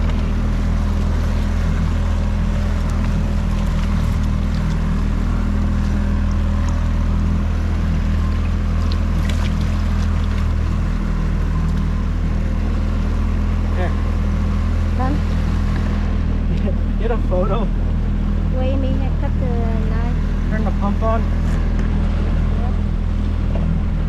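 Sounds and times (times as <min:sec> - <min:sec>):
outboard motor drone: 0:00.0 - 0:24.0
water noise: 0:00.0 - 0:24.0
wind: 0:00.0 - 0:24.0.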